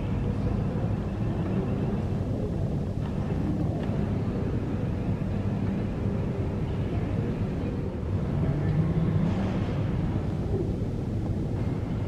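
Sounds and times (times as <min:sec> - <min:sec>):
faint hum of aircraft: 0:00.0 - 0:12.0.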